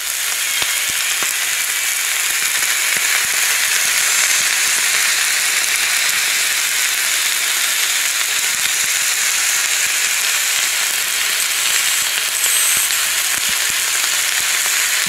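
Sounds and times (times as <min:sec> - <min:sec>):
hot metal sizzling: 0:00.0 - 0:15.0.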